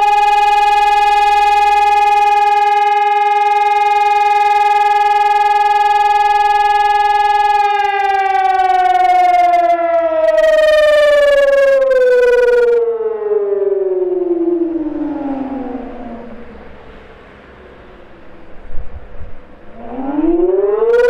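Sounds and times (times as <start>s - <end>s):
electronic siren: 0.0s - 21.0s.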